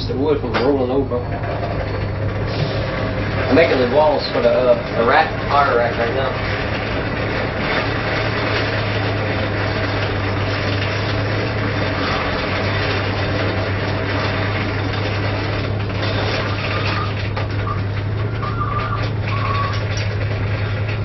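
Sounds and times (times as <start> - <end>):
forge roaring hiss: 0.0 - 21.0
low hum: 0.0 - 21.0.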